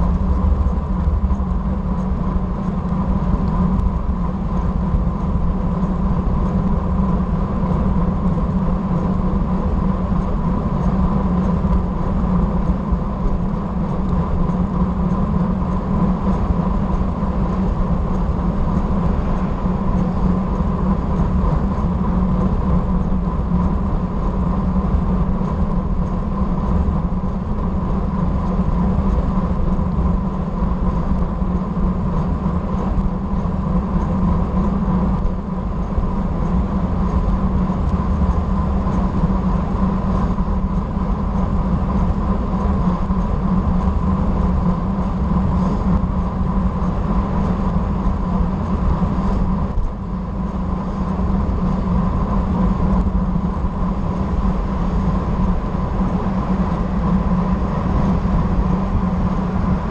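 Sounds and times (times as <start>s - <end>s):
thin steady whine: 0.0s - 59.9s
wind rush: 0.0s - 59.9s.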